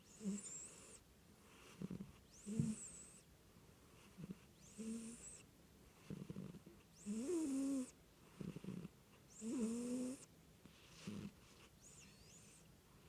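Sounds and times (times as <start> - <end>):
cat snoring: 0.1 - 3.3, 4.0 - 5.4, 6.0 - 12.7.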